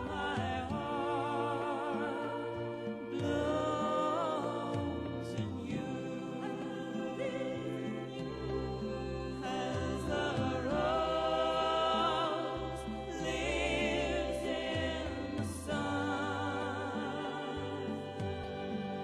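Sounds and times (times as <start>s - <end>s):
instrumental accompaniment: 0.0s - 19.0s
singing with vibrato: 0.0s - 19.0s.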